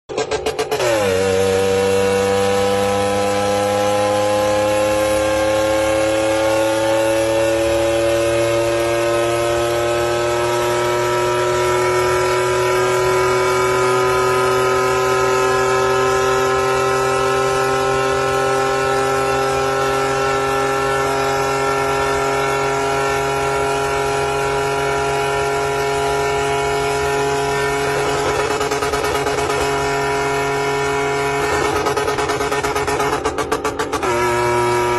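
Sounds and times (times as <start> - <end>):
rising engine-like drone: 0.2 - 34.9.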